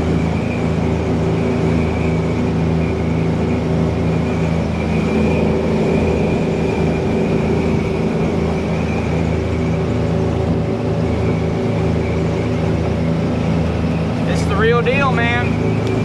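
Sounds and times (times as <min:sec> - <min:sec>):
boat engines running: 0:00.0 - 0:16.0
water rushing: 0:00.0 - 0:16.0
wind noise: 0:00.0 - 0:16.0.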